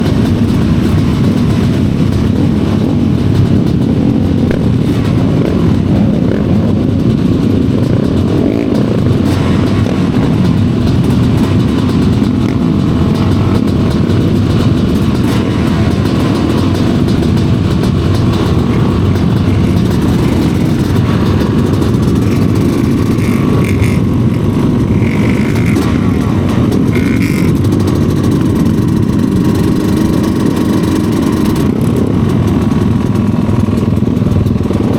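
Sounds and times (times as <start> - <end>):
motorcycle engines droning: 0.0 - 34.9.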